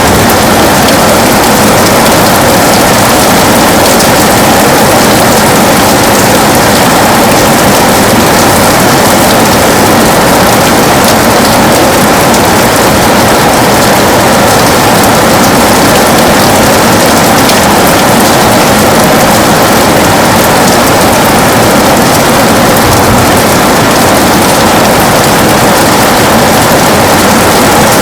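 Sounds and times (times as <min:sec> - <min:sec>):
heavy rain on a window: 0:00.0 - 0:28.0.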